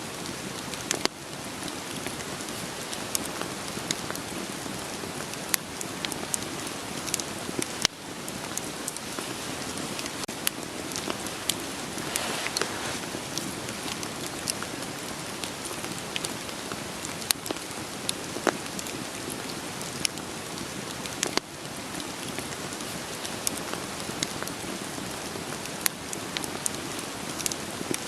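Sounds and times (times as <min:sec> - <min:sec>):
rain falling: 0:00.0 - 0:28.0
wood fire crackling: 0:00.1 - 0:28.0.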